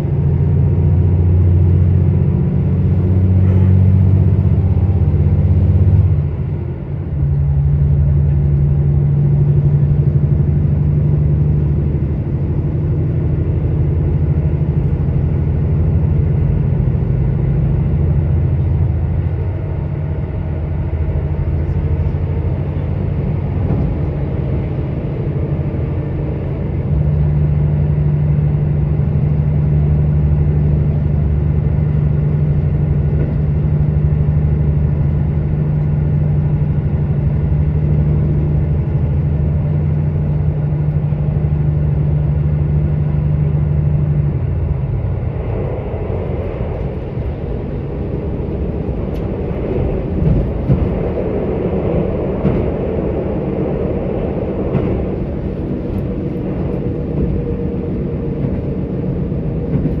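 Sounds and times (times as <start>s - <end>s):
diesel engine droning: 0.0s - 60.0s
train wheels rumbling on rails: 0.0s - 60.0s.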